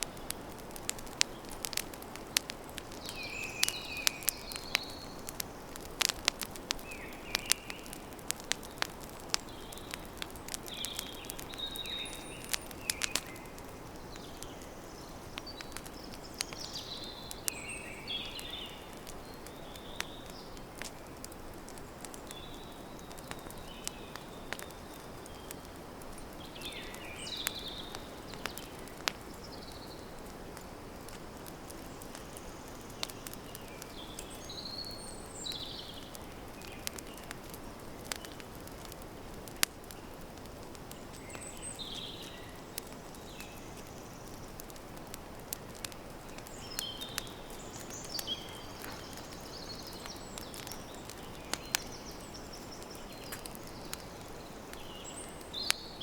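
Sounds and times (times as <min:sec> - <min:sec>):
campfire crackling: 0:00.0 - 0:56.0
birds chirping: 0:01.1 - 0:38.9, 0:40.8 - 0:44.7, 0:45.5 - 0:56.0.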